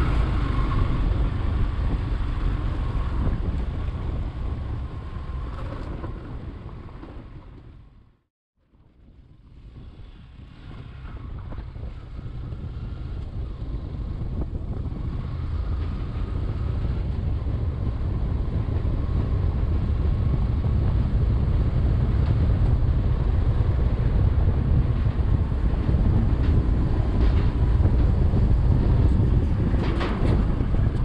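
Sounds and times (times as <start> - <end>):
wind buffeting microphone: 0.0 - 8.1, 8.8 - 31.0
motorcycle engine rumble: 0.0 - 31.0.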